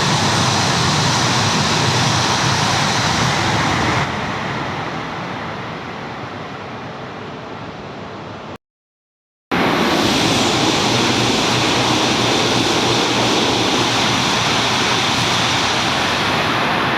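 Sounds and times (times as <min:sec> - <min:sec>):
high-speed train passing: 0:00.0 - 0:08.6, 0:09.5 - 0:16.9.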